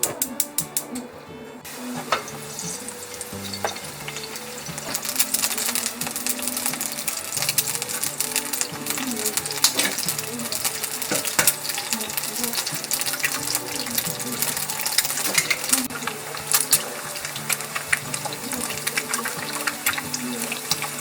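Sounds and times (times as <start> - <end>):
background music with held notes: 0.0 - 21.0
steady hiss: 1.7 - 21.0
kitchen clicks and clinks: 1.9 - 21.0.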